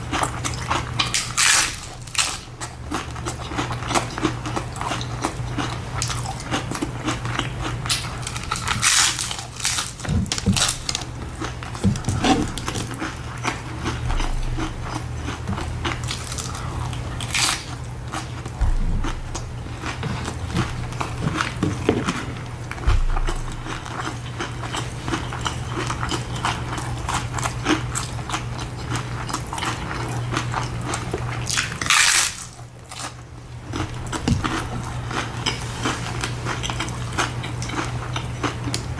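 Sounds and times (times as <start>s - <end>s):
chewing crunchy tacos: 0.0s - 38.9s.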